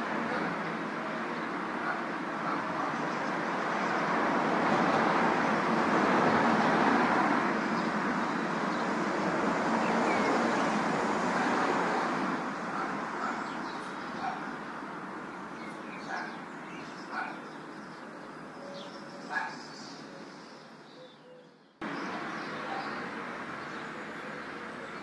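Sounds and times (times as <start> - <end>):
city traffic: 0.0 - 25.0
wind: 0.0 - 25.0.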